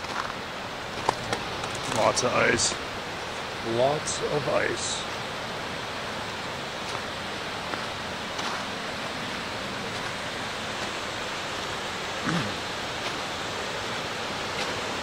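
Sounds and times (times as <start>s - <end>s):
water rushing over dam spillway: 0.0s - 15.0s.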